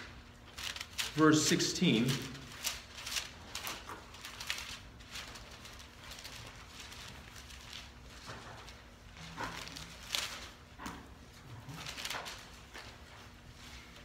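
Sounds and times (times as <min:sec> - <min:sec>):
paper pages rustling: 0:00.0 - 0:10.7, 0:11.7 - 0:14.0.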